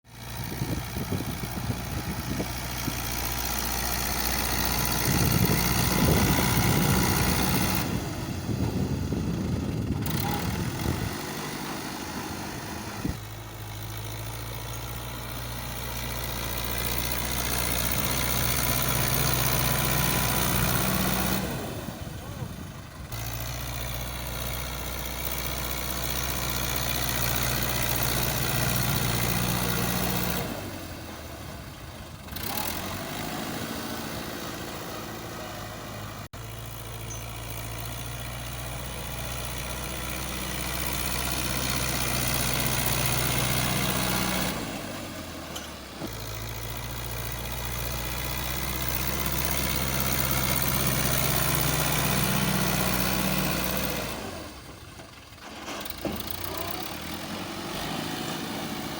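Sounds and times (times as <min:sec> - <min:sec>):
tractor diesel engine running: 0:00.1 - 0:58.9.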